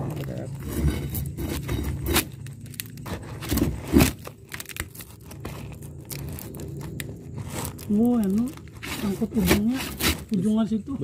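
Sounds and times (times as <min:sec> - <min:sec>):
wood and debris scraping and clattering: 0:00.0 - 0:10.6
low steady hum: 0:00.0 - 0:11.0.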